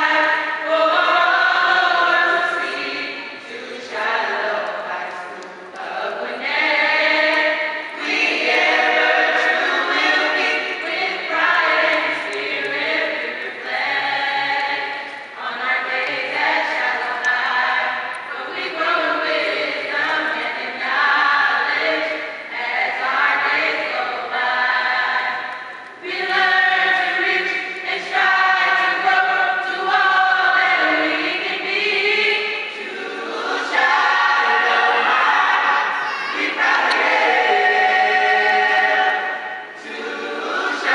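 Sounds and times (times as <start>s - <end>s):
chorus singing: 0.0s - 40.9s.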